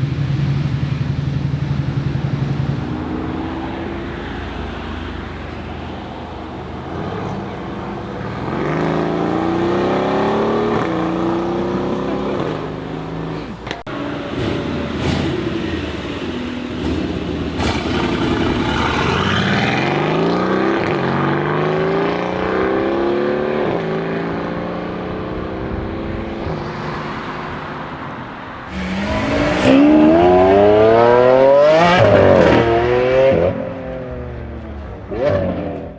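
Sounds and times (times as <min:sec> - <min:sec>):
car engine accelerating hard: 0:00.0 - 0:35.9.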